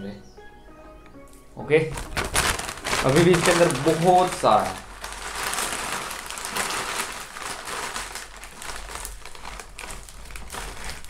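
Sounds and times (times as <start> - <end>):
plastic pack crinkling: 1.9 - 11.0.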